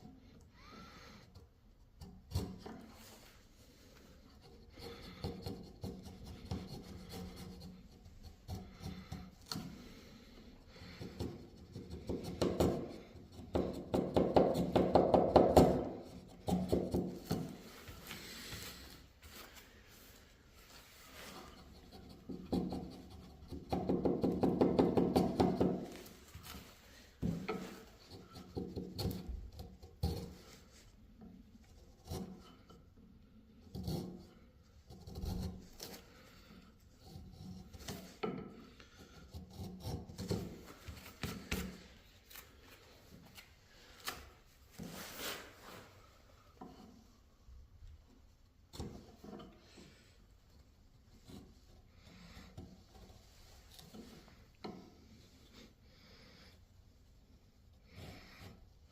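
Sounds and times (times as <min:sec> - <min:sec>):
chisel scraping wood: 0:01.2 - 0:03.1, 0:03.7 - 0:19.0, 0:20.8 - 0:47.2, 0:48.7 - 0:56.4, 0:57.4 - 0:58.9.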